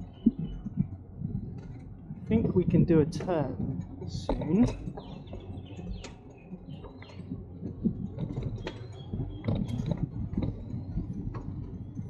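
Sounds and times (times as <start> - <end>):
bicycle ticking and rattling: 0.0 - 12.0
low rumble: 0.0 - 12.0.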